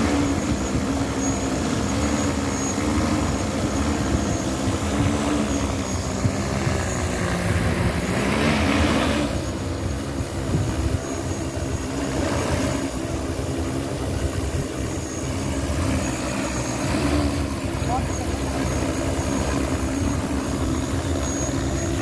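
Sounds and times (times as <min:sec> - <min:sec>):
drone rotors hovering: 0:00.0 - 0:22.0.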